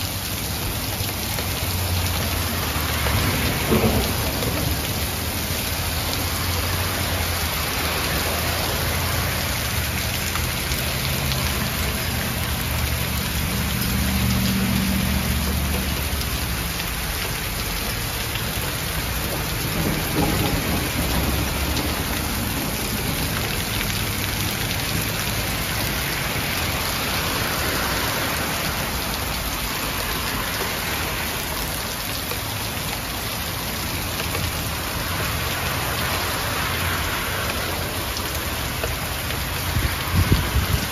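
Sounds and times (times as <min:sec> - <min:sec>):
hail hissing on surfaces: 0:00.0 - 0:40.9.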